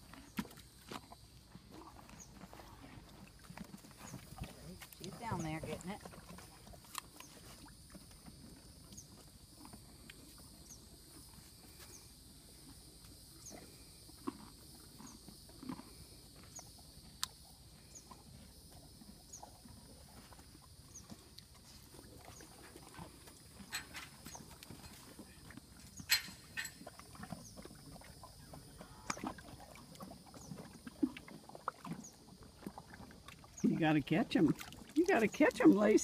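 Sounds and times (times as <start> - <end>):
horses crunching food: 0.0 - 36.0
horses snuffling: 0.0 - 36.0.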